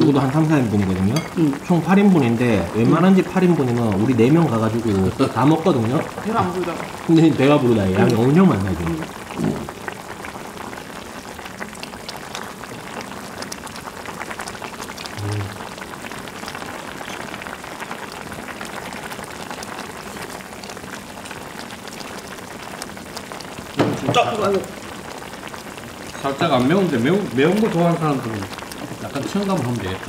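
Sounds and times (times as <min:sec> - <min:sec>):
food bubbling and sizzling: 0:00.0 - 0:30.0.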